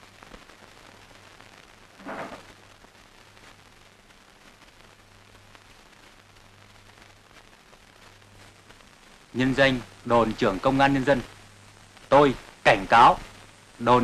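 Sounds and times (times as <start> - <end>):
film soundtrack hiss: 0.0 - 14.0.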